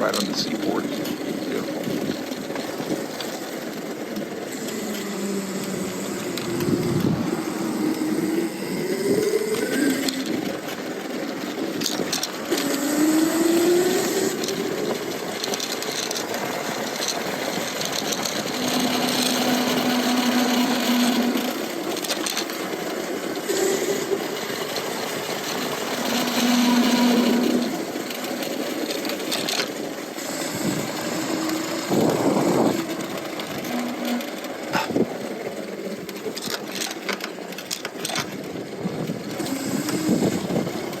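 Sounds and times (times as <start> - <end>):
electric motor whining: 0.0 - 41.0
tyre and wind noise: 1.0 - 22.6, 23.2 - 41.0.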